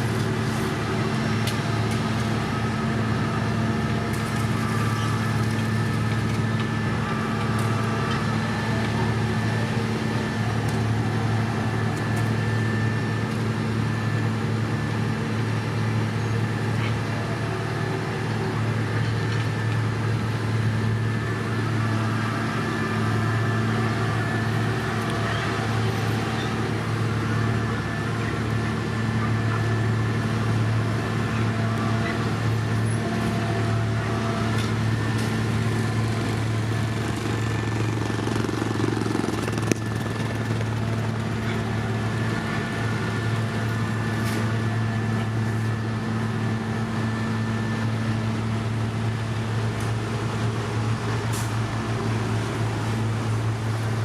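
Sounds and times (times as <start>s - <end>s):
diesel paving machinery running: 0.0s - 54.0s.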